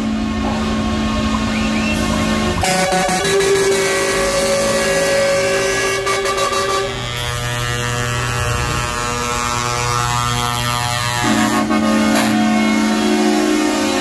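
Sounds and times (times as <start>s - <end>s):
truck engine rumble: 0.0s - 14.0s
truck air horns: 1.6s - 14.0s.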